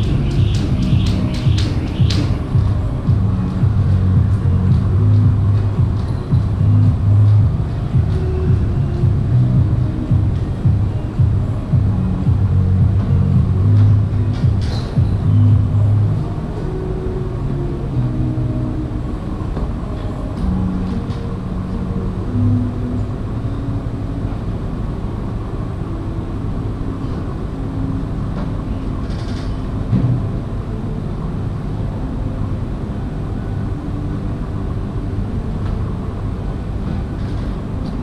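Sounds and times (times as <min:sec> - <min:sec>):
muffled bass music: 0:00.0 - 0:38.0
steady low rumble: 0:00.0 - 0:38.0.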